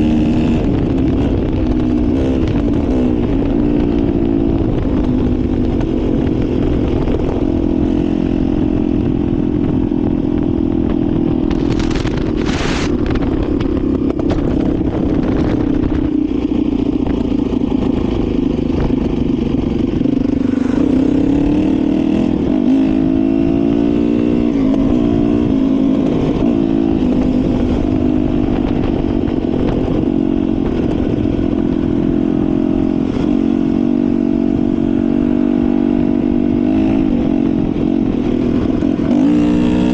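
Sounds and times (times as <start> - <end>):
dirt bike engine revving: 0.0 - 10.2, 11.4 - 39.9.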